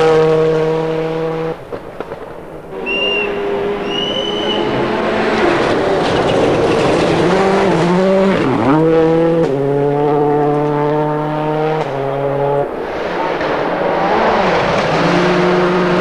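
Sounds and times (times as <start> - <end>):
rally car engine at high revs: 0.0 - 1.8, 2.7 - 16.0.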